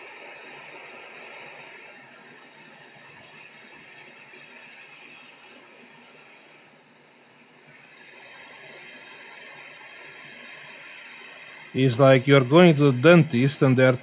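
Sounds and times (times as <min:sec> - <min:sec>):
hot air station hissing: 0:00.0 - 0:14.0.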